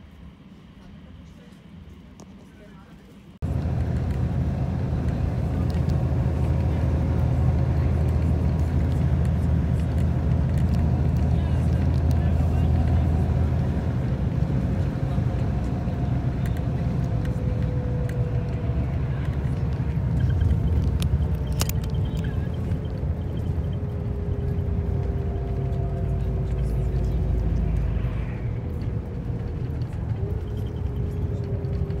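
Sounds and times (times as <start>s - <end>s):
faint whine: 0.0s - 32.0s
vehicle rumble from inside cabin: 3.4s - 32.0s.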